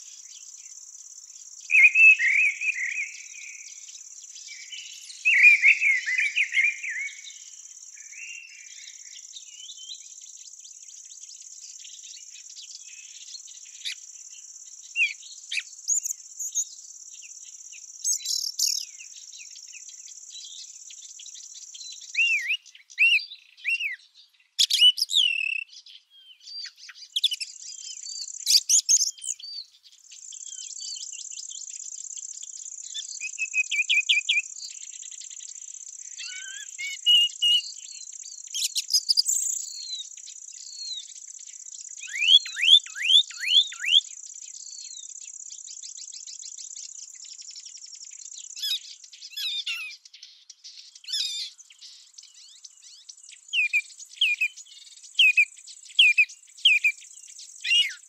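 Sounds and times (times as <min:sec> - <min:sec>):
insect chorus: 0:00.0 - 0:58.0
birds chirping and calling: 0:01.4 - 0:58.0.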